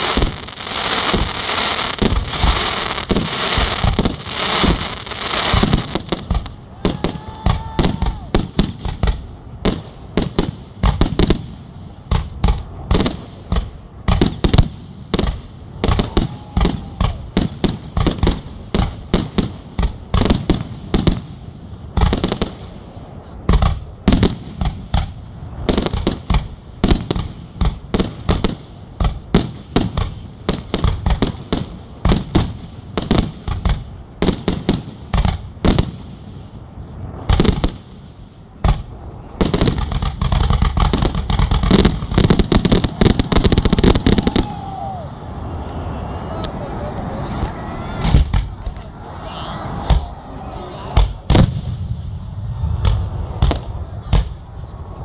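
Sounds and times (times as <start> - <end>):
fireworks bursting with sharp bangs: 0.0 - 55.0.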